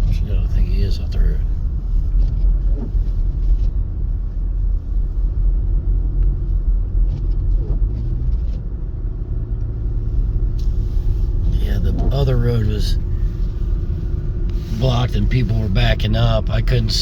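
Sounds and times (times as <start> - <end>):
car driving on snowy road: 0.0 - 17.0.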